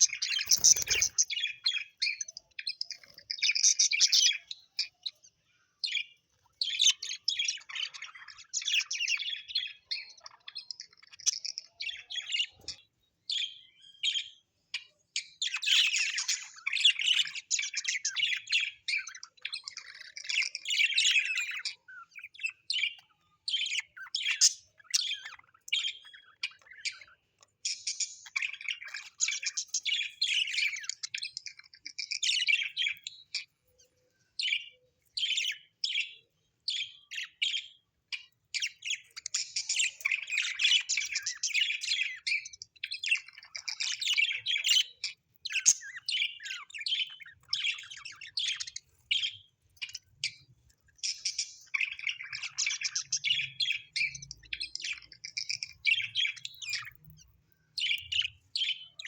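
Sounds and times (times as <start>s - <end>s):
parrots chirping and chattering: 0.0s - 59.0s.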